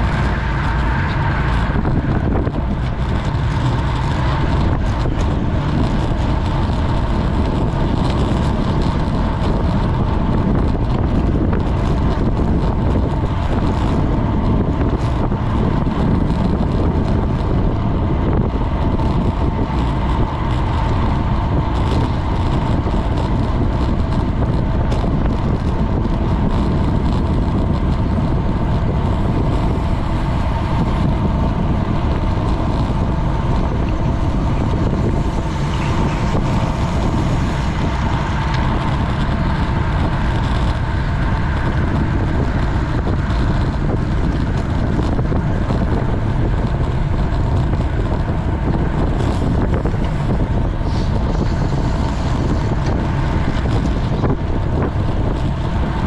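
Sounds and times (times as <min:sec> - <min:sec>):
wind rush on microphone: 0:00.0 - 0:56.0.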